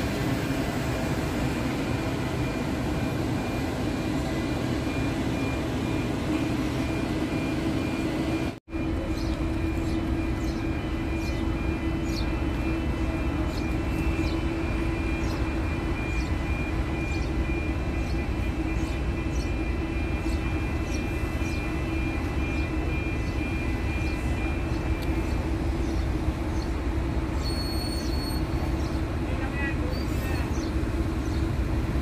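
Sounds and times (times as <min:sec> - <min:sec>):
heavy construction machinery drone: 0:00.0 - 0:32.0.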